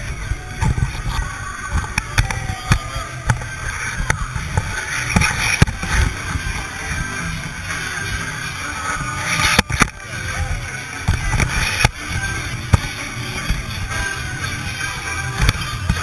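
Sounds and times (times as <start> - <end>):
crowd talking and shouting: 0.0 - 16.0
low rumbling thumps: 0.0 - 16.0.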